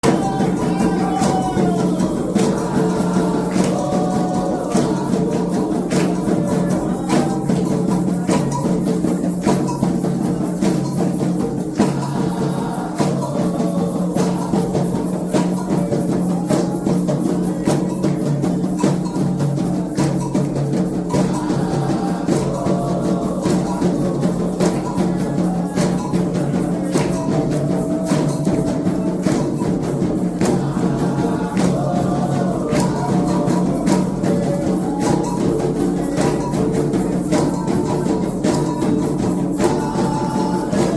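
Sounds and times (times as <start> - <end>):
person singing: 0.0 - 9.4, 10.0 - 18.2, 18.9 - 40.9
drum and hand percussion: 0.0 - 40.9.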